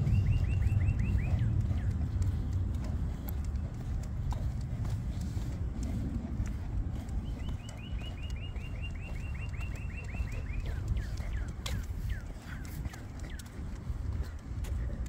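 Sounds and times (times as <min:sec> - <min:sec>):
low rumble from walking: 0:00.0 - 0:15.0.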